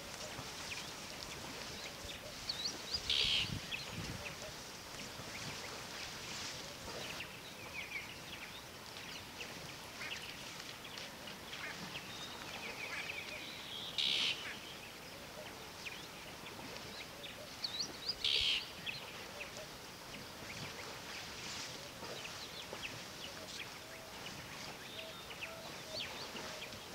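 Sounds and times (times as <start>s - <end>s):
birds chirping and twittering: 0.0s - 26.9s.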